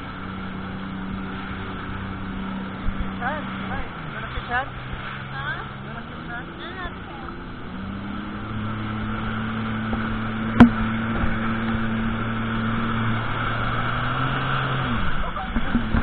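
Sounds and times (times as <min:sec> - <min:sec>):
jet ski engine running: 0:00.0 - 0:16.0
water and wind rushing: 0:00.0 - 0:16.0.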